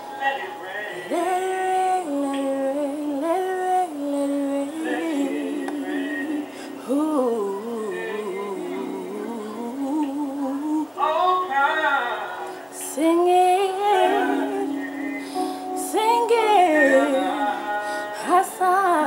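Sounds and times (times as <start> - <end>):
woman singing gospel song: 0.9 - 11.4, 12.7 - 19.0.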